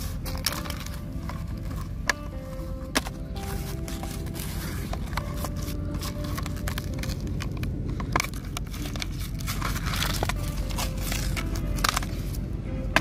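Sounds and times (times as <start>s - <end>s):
paper packaging crinkling: 0.0s - 12.4s.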